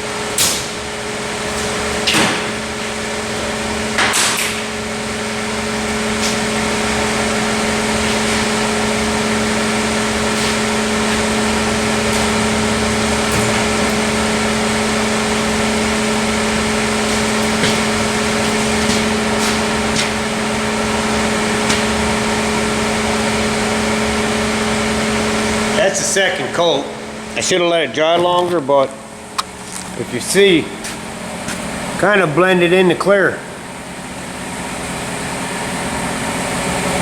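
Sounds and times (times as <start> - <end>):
air compressor motor hum: 0.0 - 37.0.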